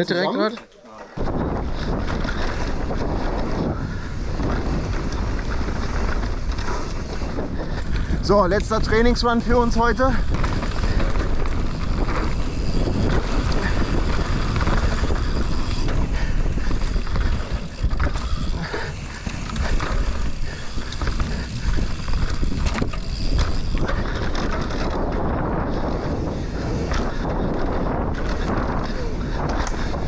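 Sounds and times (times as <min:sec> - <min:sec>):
wind rushing over microphone: 0:01.1 - 0:30.0
bike chain and frame rattling: 0:01.2 - 0:30.0.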